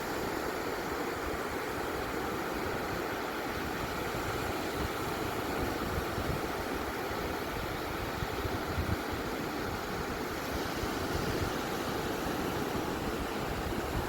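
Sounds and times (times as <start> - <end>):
ocean surf on a beach: 0.0 - 14.0.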